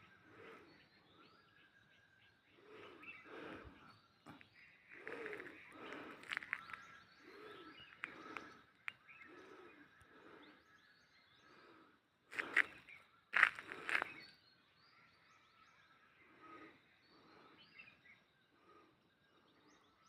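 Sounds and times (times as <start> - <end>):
low arching bird calls: 0.0 - 20.0.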